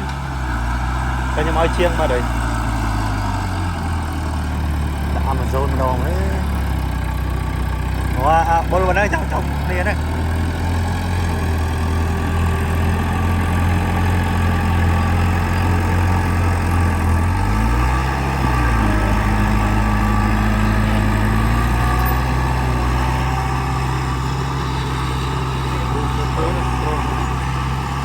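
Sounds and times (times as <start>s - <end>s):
heavy machinery diesel engine: 0.0s - 28.0s.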